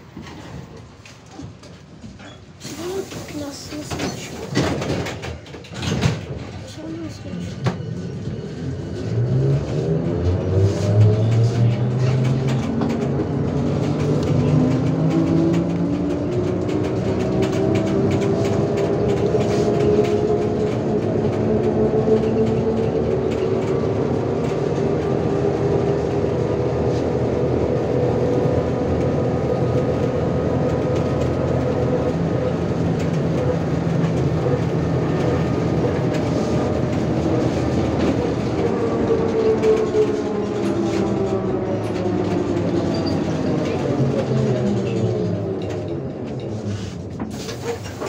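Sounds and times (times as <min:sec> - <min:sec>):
road rumble: 0:00.0 - 0:48.0.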